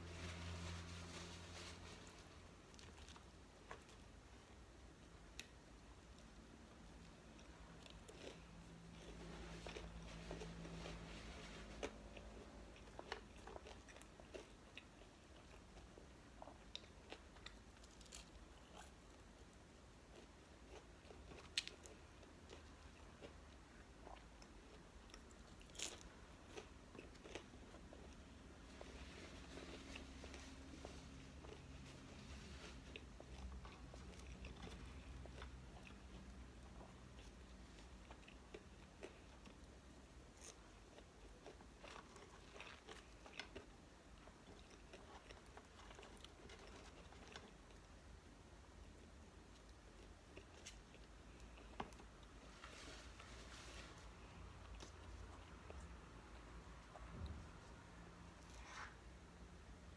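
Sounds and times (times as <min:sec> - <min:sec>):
quiet chewing: 0:00.2 - 0:59.0.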